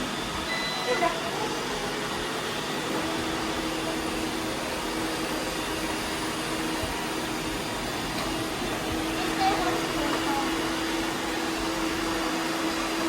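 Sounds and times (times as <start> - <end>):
robot vacuum cleaners whirring: 0.0 - 13.0.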